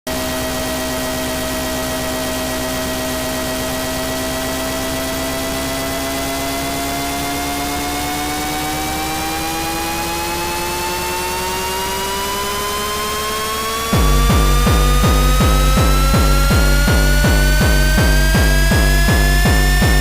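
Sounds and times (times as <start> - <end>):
rising synthesizer tone: 0.2 - 20.0.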